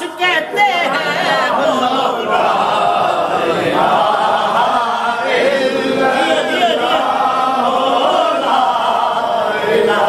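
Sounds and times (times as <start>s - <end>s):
men chanting unaccompanied: 0.0s - 10.0s.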